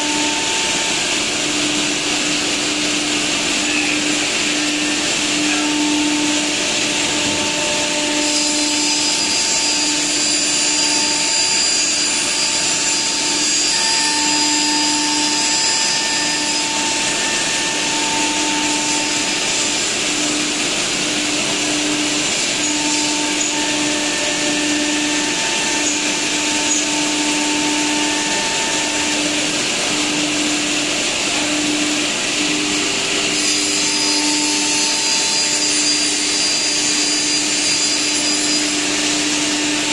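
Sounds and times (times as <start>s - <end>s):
dust extraction running: 0.0s - 39.9s
saw cutting panel: 0.0s - 39.9s.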